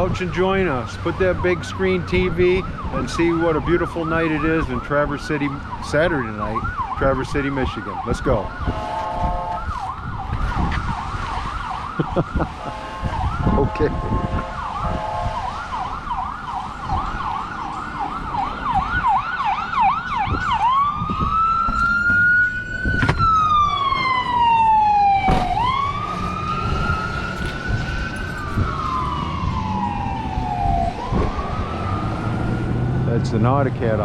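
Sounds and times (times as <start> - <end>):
emergency vehicle siren: 0.0 - 34.0
low wind rumble: 0.0 - 34.0.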